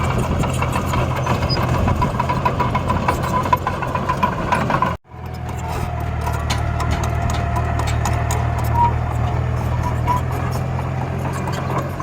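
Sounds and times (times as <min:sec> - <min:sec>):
engine-like drone: 0:00.0 - 0:12.0
rattling clicks: 0:00.1 - 0:12.0.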